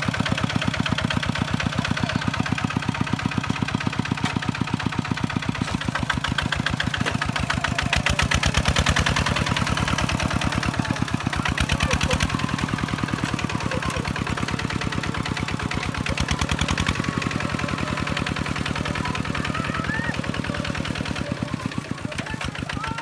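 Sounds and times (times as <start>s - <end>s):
diesel engine chugging: 0.0s - 23.0s.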